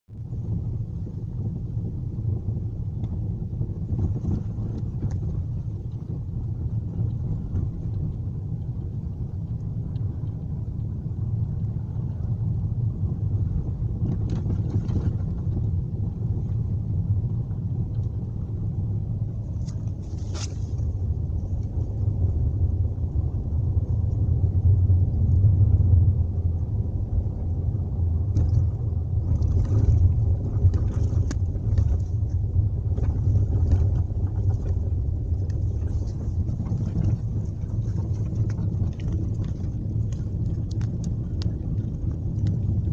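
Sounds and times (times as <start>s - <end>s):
road and engine rumble: 0.0s - 42.9s.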